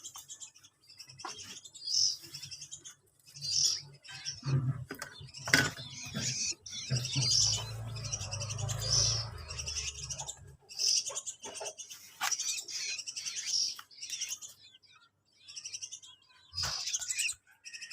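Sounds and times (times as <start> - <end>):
young songbirds chirping: 0.0 - 17.9.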